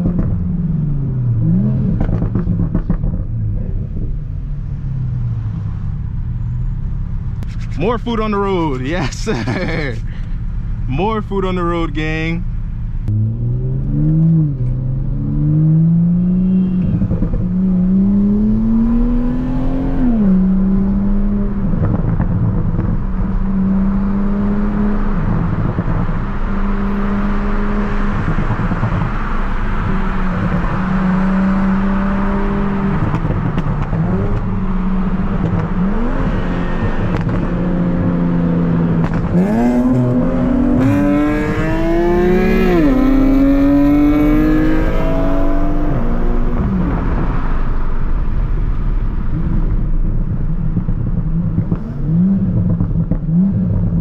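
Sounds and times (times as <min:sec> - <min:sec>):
turbocharged car engine under load: 0:00.0 - 0:54.0.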